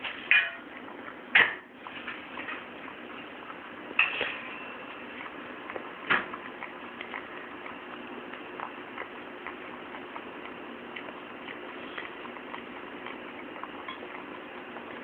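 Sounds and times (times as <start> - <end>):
dog eating from metal bowl: 0.0 - 15.0.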